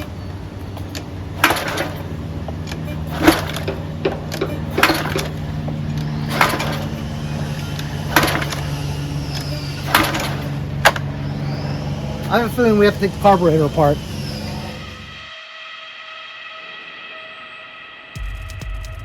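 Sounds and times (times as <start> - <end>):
recoil pull-starter cranking engine: 0.0 - 15.3
steady low hum: 0.0 - 15.3.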